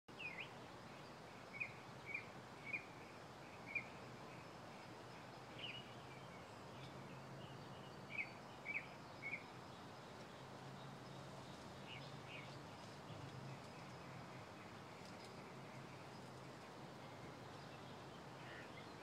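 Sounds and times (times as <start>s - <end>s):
outdoor background hiss: 0.1s - 19.0s
small bird chirping: 0.1s - 19.0s.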